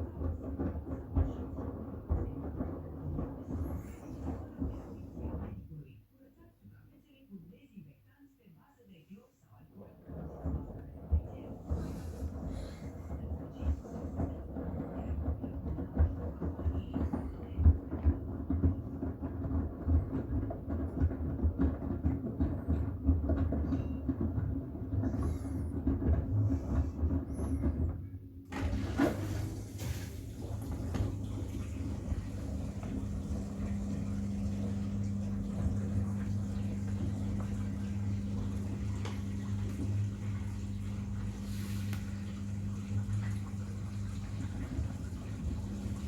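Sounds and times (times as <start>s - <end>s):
washing machine drum rumbling: 0.0s - 5.8s, 10.0s - 46.0s.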